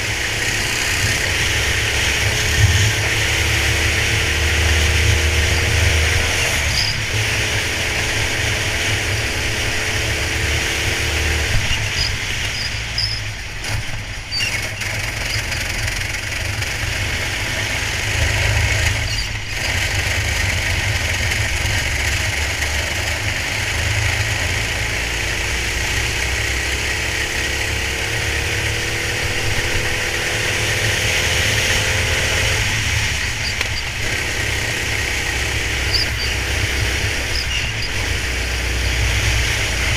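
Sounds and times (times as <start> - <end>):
racing kart engine: 0.0 - 39.9.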